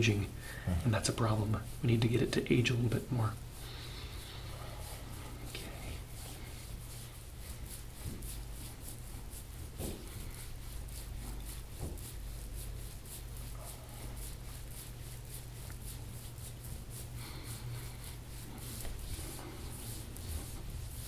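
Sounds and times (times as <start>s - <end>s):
rubbing strokes on skin: 0.0s - 21.0s
steady low hum: 0.0s - 21.0s.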